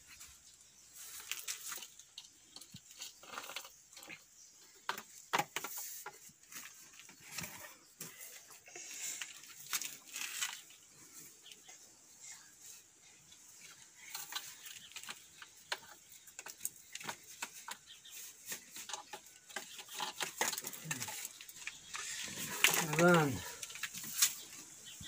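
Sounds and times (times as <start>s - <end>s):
plastic tubing clicking and scraping: 1.1s - 11.8s, 13.3s - 25.0s.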